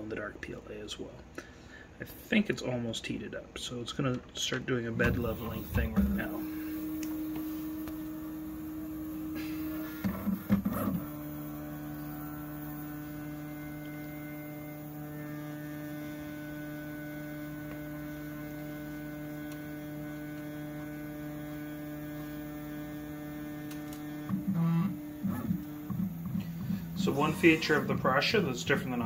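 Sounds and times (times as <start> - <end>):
electrical hum: 0.0 - 29.0
motor noise burst: 5.0 - 29.0.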